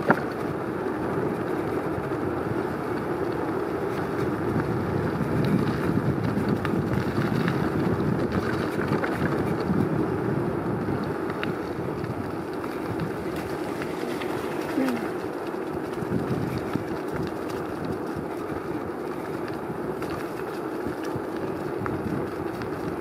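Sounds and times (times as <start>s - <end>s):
light crackles: 0.0s - 23.0s
tyres rolling over gravel: 0.0s - 23.0s
wind on microphone: 0.0s - 23.0s.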